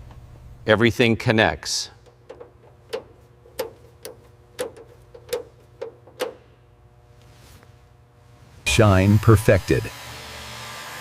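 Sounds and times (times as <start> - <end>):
faint steady hum: 0.0 - 10.2.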